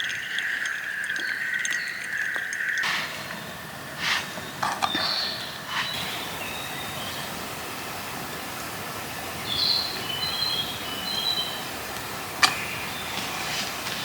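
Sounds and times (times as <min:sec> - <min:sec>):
birds whistling: 0:00.0 - 0:14.0
steady background hiss: 0:02.8 - 0:14.0.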